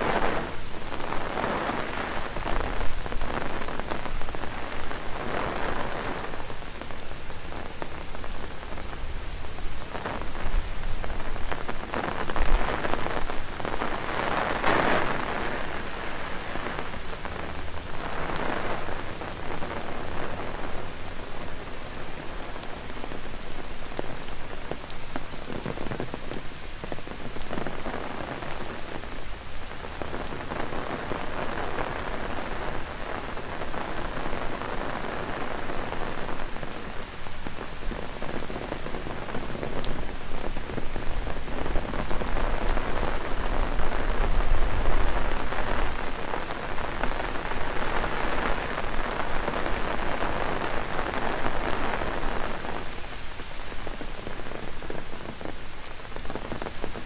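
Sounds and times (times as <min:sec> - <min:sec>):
cicadas droning: 0:00.0 - 0:57.0
heavy rain on an umbrella: 0:00.0 - 0:57.0.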